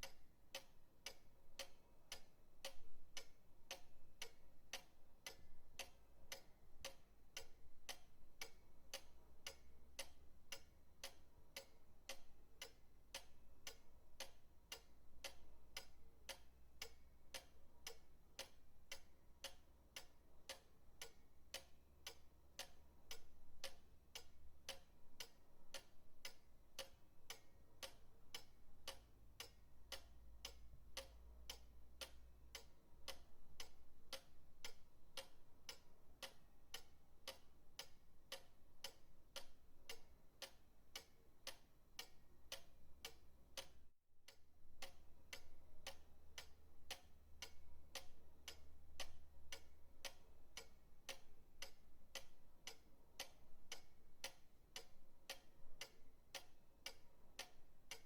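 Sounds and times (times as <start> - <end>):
pendulum clock ticking: 0.0 - 58.0.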